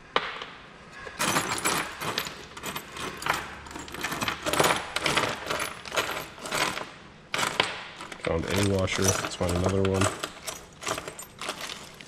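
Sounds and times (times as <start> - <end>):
steel bolts and screws jangling: 1.1 - 12.0.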